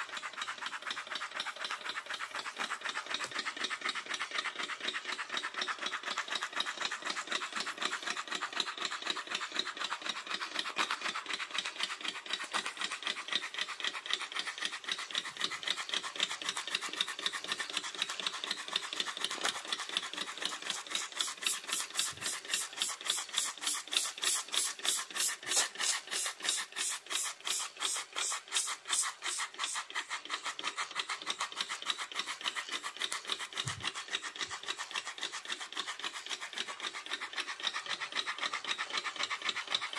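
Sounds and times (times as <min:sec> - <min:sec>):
model steam engine beating: 0:00.0 - 0:39.9.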